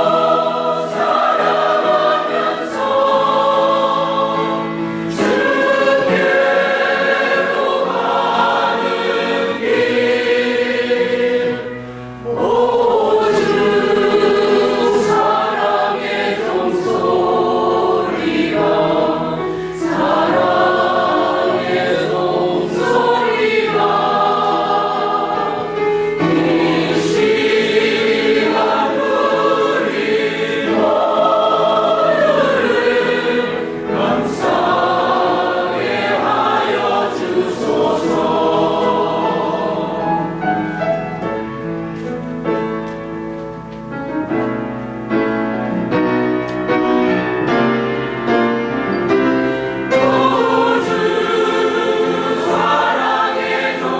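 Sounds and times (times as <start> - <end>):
church choir singing a hymn: 0.0 - 42.2, 45.2 - 53.9.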